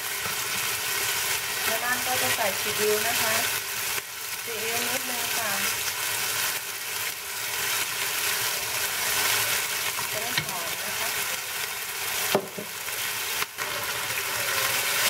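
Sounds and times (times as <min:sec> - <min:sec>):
chicken sizzling in a frying pan: 0:00.0 - 0:15.0.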